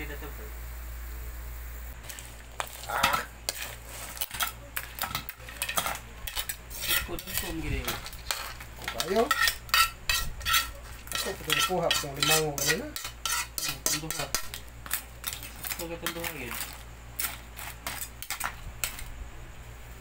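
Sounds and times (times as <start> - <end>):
metal utensil scraping wok: 2.0 - 19.0.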